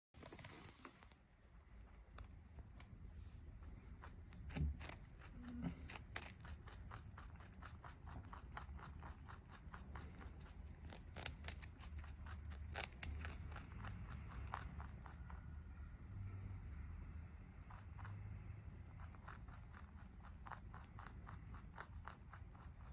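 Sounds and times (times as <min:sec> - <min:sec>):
rabbit chewing crisp stalk: 0:01.0 - 0:16.5, 0:17.4 - 0:22.9.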